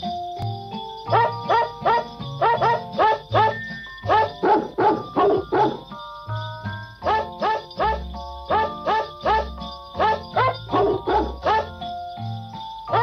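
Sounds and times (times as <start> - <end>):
music of dog barks: 0.0 - 13.0.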